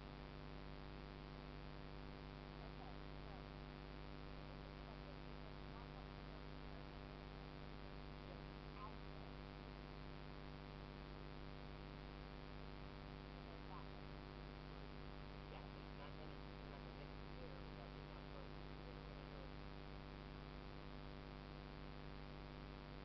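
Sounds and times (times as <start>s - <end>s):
electrical hum and hiss: 0.0s - 23.0s.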